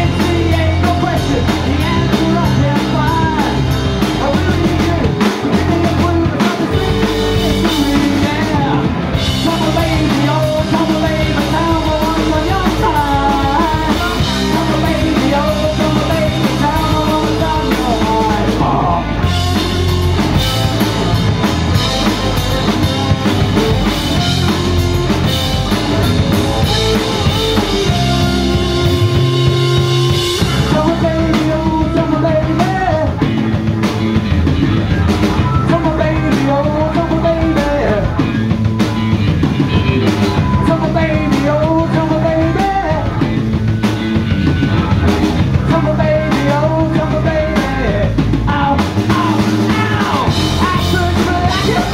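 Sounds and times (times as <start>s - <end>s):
bass guitar: 0.0s - 51.9s
drum kit: 0.0s - 51.9s
electric guitars: 0.0s - 51.9s.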